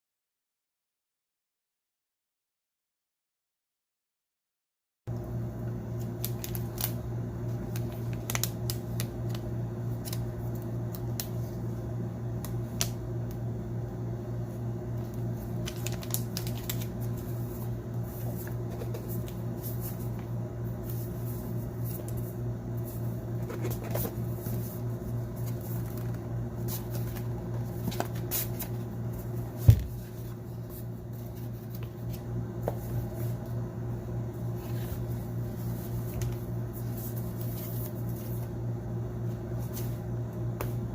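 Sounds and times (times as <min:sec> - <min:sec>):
low electrical hum: 0:05.1 - 0:40.9.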